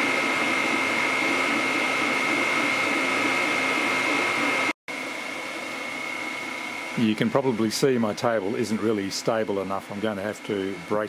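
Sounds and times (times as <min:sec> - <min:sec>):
high whine of fans: 0:00.0 - 0:11.0
stepper motors humming: 0:00.0 - 0:11.0.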